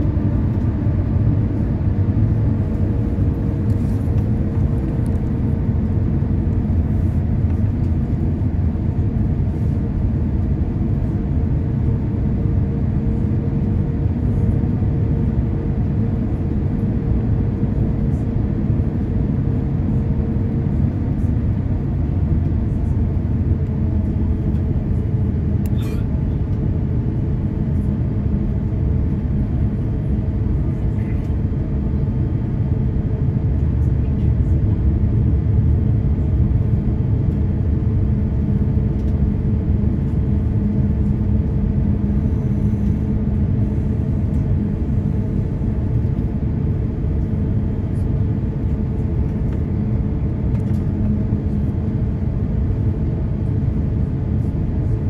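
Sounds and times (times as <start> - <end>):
airplane cabin rumble and hum: 0.0 - 55.0.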